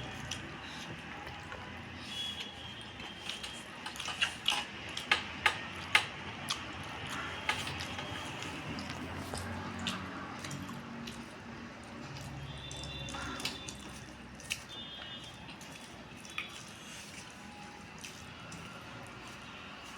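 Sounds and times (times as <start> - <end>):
chewing and mouth noise: 0.0 - 19.9.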